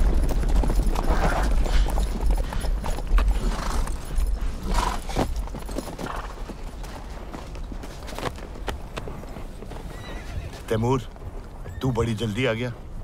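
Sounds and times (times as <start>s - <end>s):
horse hoofbeats on sand: 0.0s - 13.0s.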